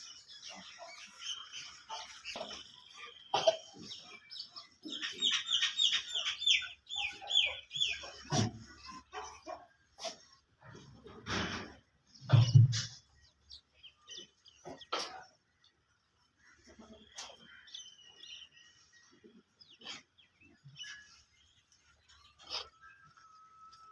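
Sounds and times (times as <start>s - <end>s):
bird chirps: 0.0s - 9.2s, 12.2s - 23.9s
loud farmyard animal calls: 0.0s - 23.9s.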